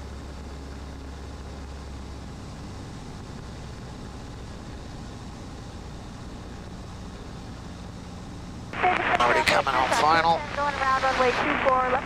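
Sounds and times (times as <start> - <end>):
plane engine and propeller droning: 0.0 - 12.0.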